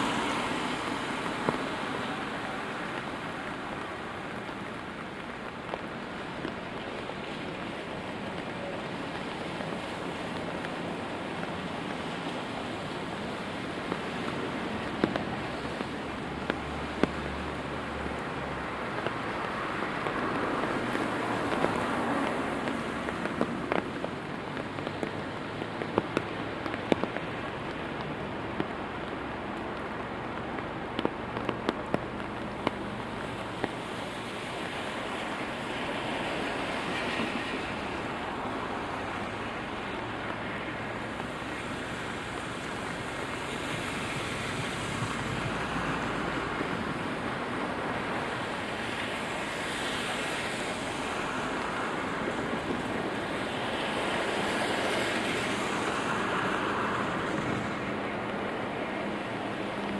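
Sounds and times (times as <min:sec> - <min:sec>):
rain falling on street: 0:00.0 - 0:59.9
tyre hiss on wet road: 0:00.0 - 0:59.9.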